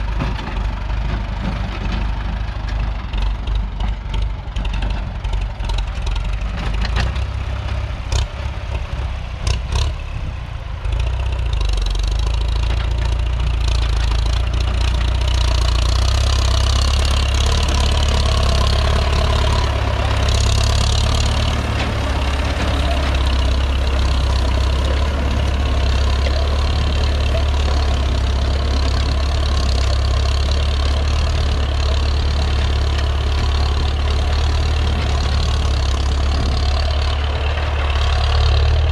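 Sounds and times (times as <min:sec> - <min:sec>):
sharp engine knocks: 0:00.0 - 0:08.8, 0:12.2 - 0:38.8
tractor diesel engine running: 0:00.0 - 0:38.9.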